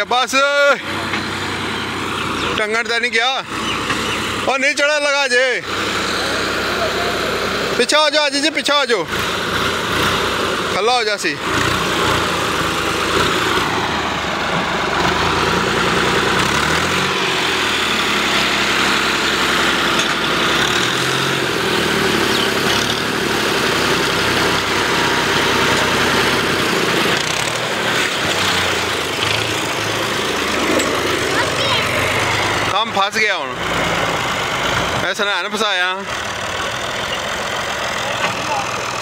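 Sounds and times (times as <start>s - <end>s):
tractor diesel engine revving: 0.0s - 39.0s.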